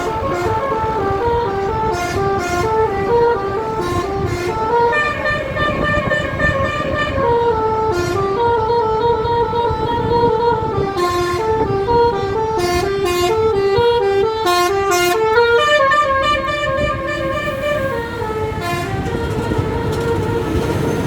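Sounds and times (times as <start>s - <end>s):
bus rumbling: 0.0s - 21.0s
musical air horn melody: 0.0s - 21.0s.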